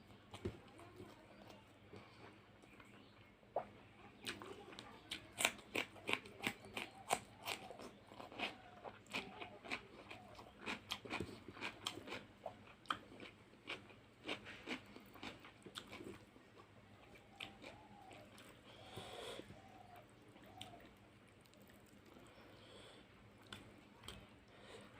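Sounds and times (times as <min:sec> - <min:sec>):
person chewing crunchy food: 0:03.6 - 0:24.9.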